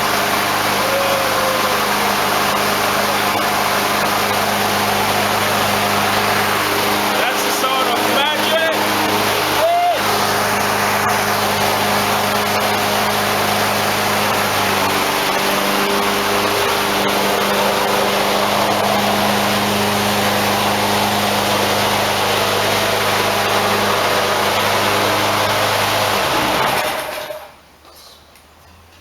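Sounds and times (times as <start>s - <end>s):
lawnmower engine running: 0.0s - 27.6s.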